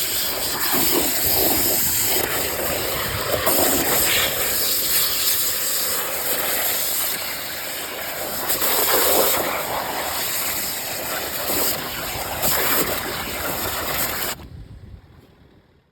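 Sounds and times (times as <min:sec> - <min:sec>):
water jet and vacuum hissing rush: 0:00.0 - 0:14.4.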